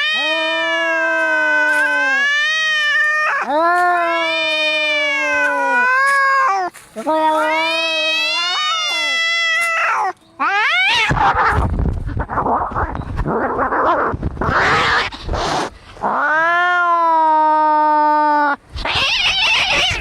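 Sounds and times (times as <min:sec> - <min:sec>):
cat caterwaul: 0:00.0 - 0:11.6, 0:12.2 - 0:20.0
cats fighting: 0:00.0 - 0:20.0.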